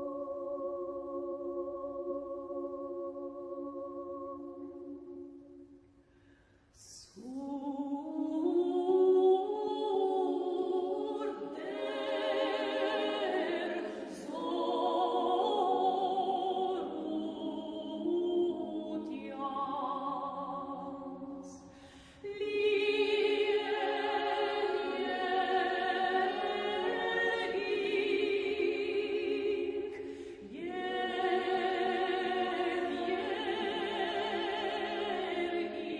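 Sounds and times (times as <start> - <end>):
a cappella choir singing hymn: 0.0 - 5.8, 6.9 - 35.9.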